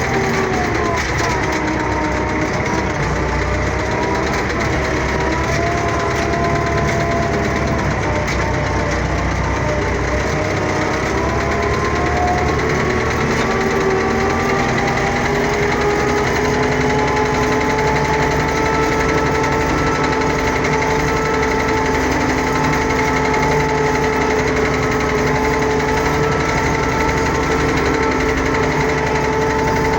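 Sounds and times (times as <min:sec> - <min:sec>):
farm machine engine running: 0:00.0 - 0:29.9.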